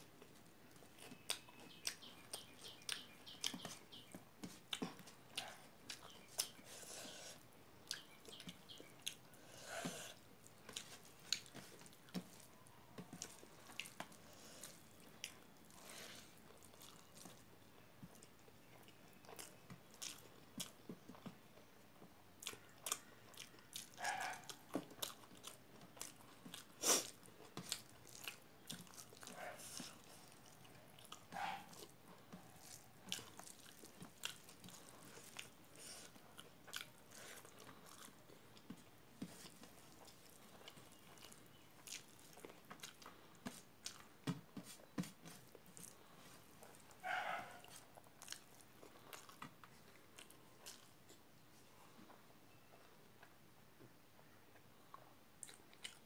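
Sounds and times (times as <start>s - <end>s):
chewing and lip smacks: 0.2s - 7.0s, 7.8s - 21.4s, 22.0s - 44.4s, 45.0s - 51.3s, 54.5s - 56.0s.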